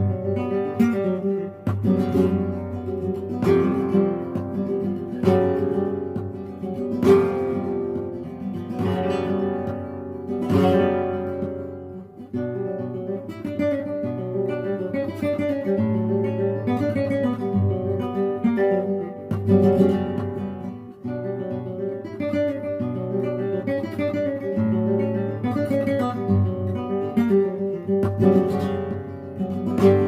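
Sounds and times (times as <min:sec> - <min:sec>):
acoustic guitar: 0:00.0 - 0:30.0.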